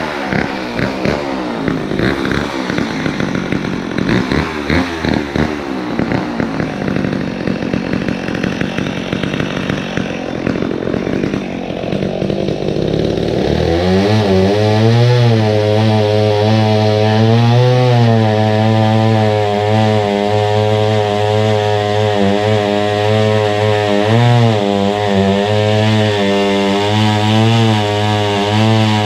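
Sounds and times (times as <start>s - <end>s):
chainsaw cutting through wood: 0.0s - 29.0s.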